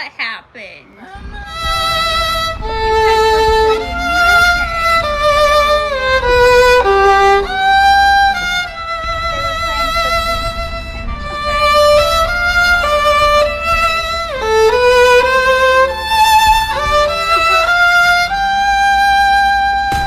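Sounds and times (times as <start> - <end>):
slow melody with vibrato: 1.0 - 20.0.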